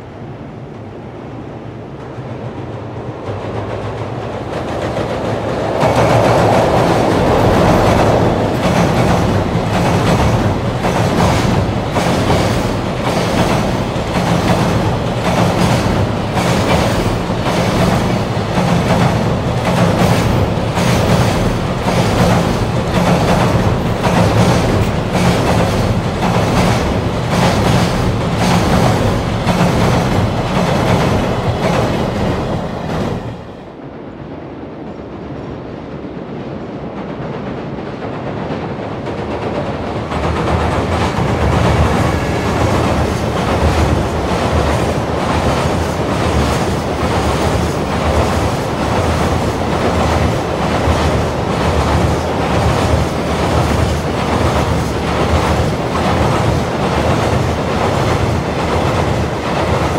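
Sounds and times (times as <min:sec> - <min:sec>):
distant freight train approaching: 0:00.0 - 0:59.9
freight train on steel bridge: 0:00.0 - 0:59.9.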